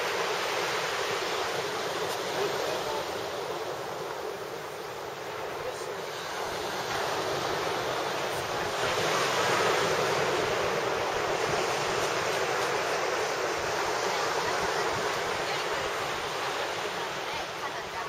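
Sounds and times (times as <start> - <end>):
ocean surf breaking ashore: 0.0 - 18.0.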